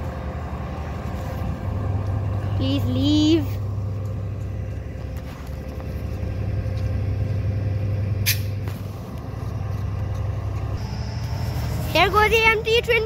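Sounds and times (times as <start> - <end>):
locomotive idling hum: 0.0 - 13.0.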